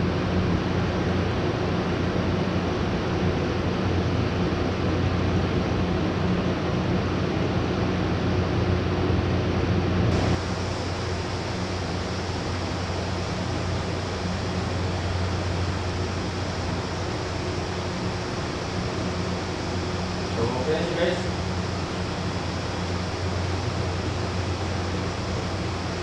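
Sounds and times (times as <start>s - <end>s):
air conditioner humming: 0.0s - 26.0s.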